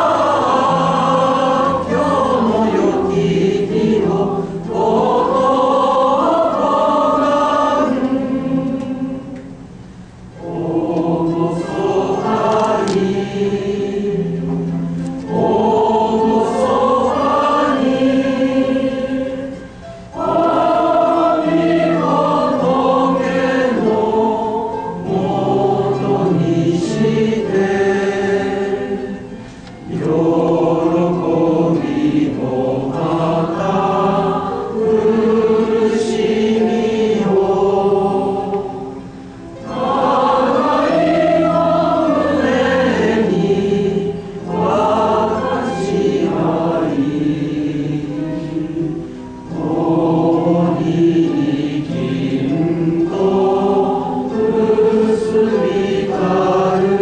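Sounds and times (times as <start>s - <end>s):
congregation singing a hymn: 0.0s - 9.6s, 10.2s - 57.0s.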